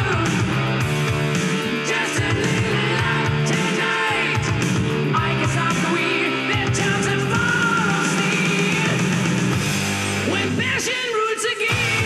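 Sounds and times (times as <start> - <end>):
rock music from loudspeakers: 0.0 - 12.0.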